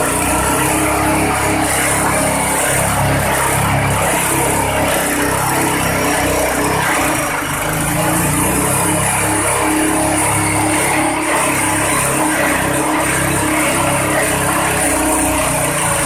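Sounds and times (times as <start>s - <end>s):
engine-driven shredder running: 0.0s - 16.0s.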